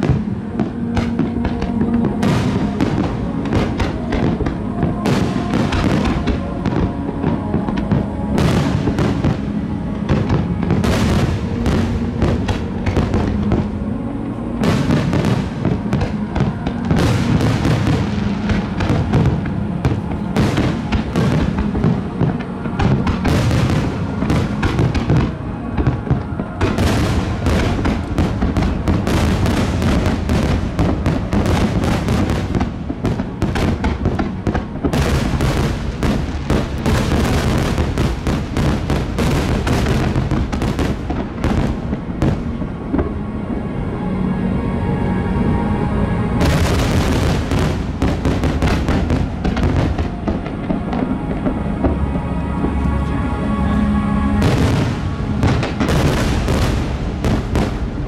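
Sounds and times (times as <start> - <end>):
fireworks bursting and crackling: 0.0 - 43.9, 45.5 - 53.2, 54.1 - 58.0
music with long held notes: 0.0 - 58.0.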